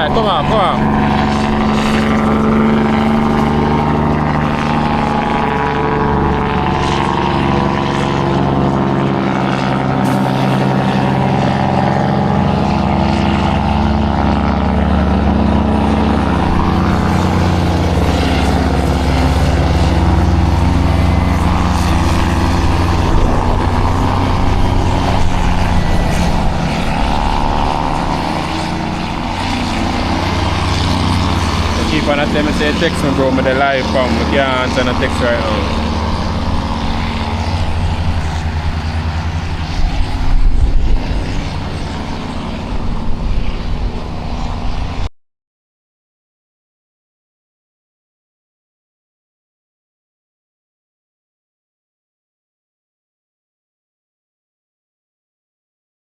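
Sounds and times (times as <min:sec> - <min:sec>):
diesel truck engine droning: 0:00.0 - 0:45.0.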